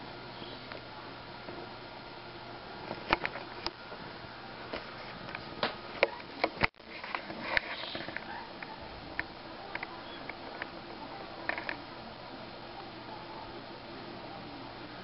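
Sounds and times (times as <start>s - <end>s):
low room hiss: 0.0s - 15.0s.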